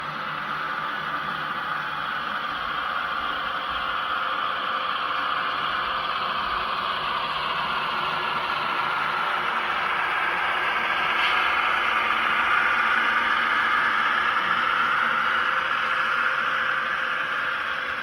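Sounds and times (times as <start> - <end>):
model train rolling: 0.0 - 18.0.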